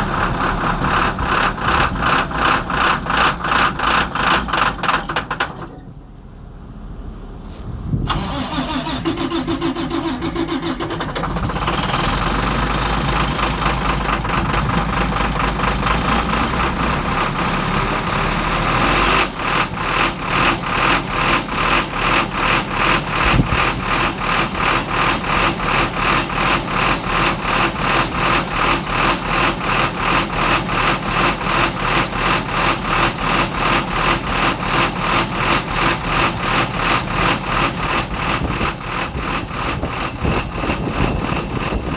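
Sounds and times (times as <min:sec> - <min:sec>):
diesel engine starting and running: 0:00.0 - 0:41.9.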